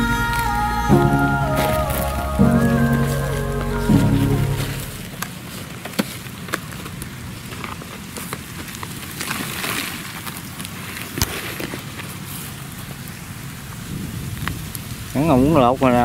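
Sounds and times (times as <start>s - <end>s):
plastic sack crinkling: 0.0s - 13.1s
dry straw rustling: 0.0s - 13.4s.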